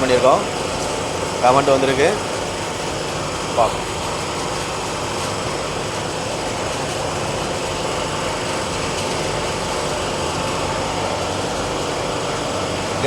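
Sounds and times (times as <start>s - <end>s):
freezer compressor running: 0.0s - 13.0s.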